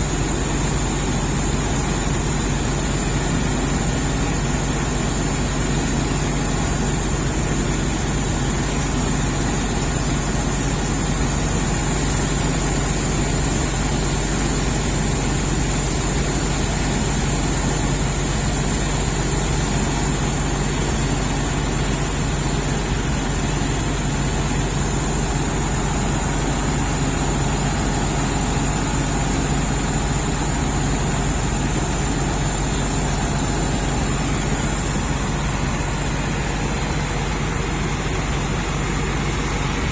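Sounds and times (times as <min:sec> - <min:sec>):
diesel engines idling: 0:00.0 - 0:39.9.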